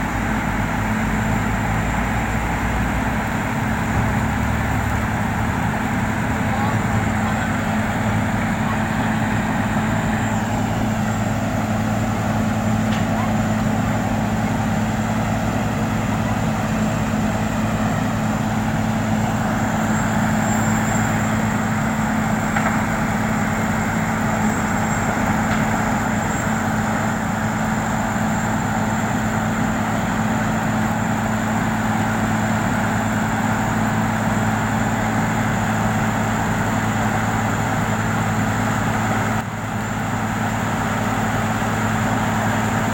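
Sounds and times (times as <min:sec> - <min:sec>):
engine humming: 0:00.0 - 0:42.9.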